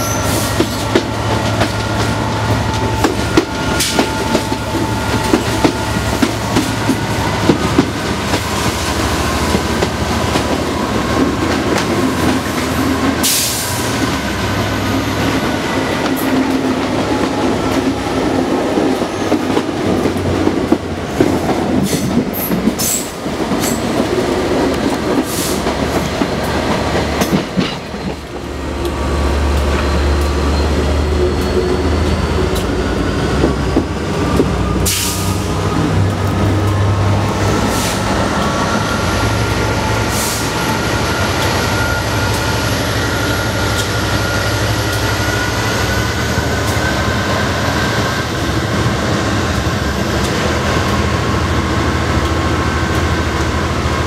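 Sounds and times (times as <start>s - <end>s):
diesel locomotive engine working hard: 0.0s - 54.0s.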